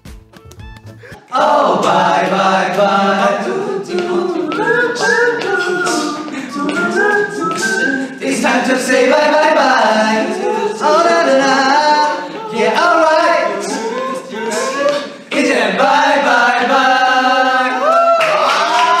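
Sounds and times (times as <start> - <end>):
men singing without instruments: 1.3 - 18.2.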